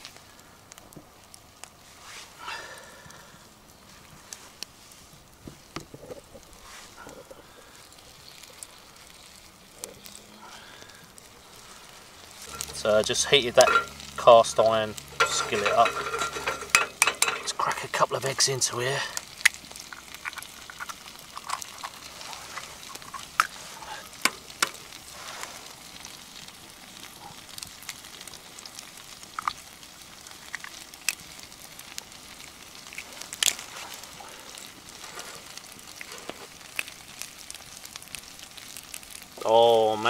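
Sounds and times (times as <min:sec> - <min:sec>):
fat popping and crackling: 0:00.0 - 0:40.0
food sizzling in pans: 0:00.0 - 0:40.0.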